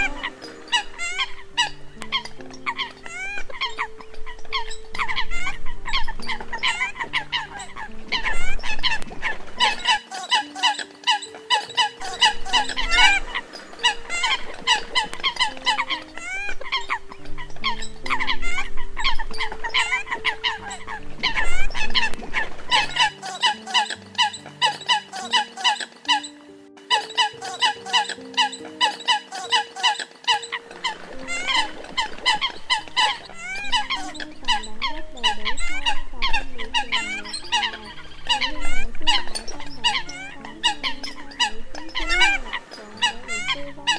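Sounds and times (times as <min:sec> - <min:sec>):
background music with low notes: 0:00.0 - 0:43.9
birds calling sharply: 0:00.0 - 0:43.9.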